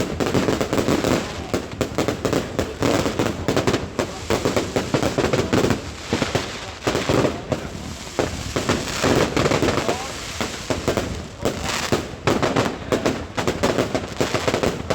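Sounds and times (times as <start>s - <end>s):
fireworks and firecrackers banging: 0.0s - 14.9s.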